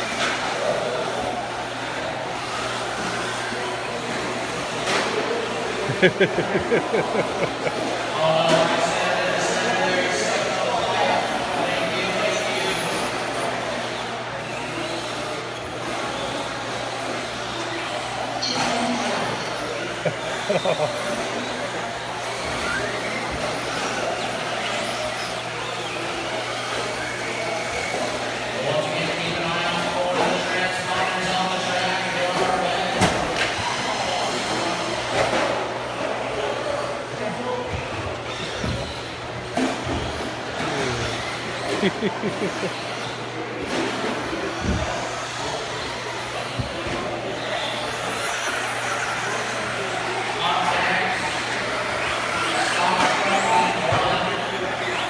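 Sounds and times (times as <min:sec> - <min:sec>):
electric motors whining: 0:00.0 - 0:55.0.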